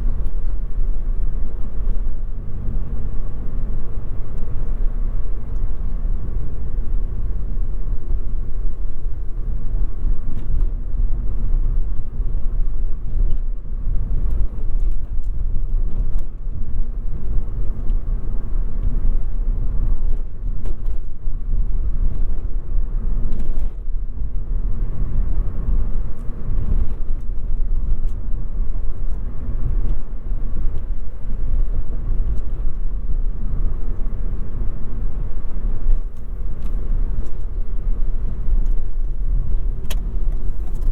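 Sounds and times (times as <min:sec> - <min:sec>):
road and tyre rumble: 0:00.0 - 0:40.9.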